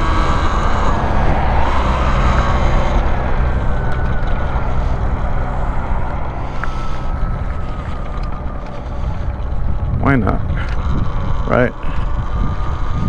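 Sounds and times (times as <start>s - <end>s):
electric motor whine: 0.0s - 13.0s
wind rumble on microphone: 0.0s - 13.0s.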